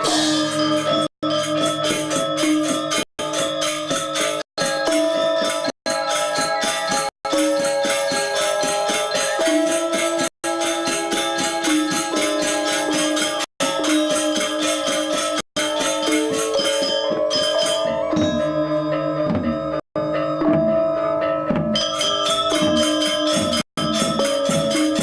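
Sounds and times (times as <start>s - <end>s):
metallophones and gongs ringing: 0.0s - 25.0s.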